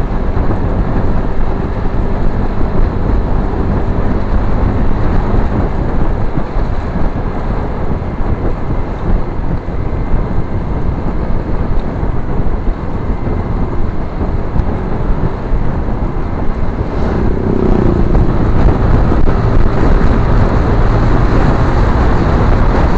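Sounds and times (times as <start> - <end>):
motorcycle engine and tyre rumble: 0.0 - 22.9
wind rushing over microphone: 0.0 - 22.9.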